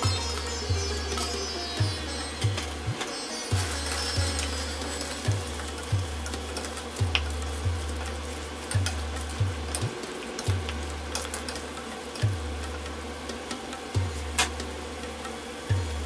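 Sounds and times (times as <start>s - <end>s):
food sizzling in a pot: 0.0s - 16.0s
music with pulsing beat: 0.0s - 16.0s.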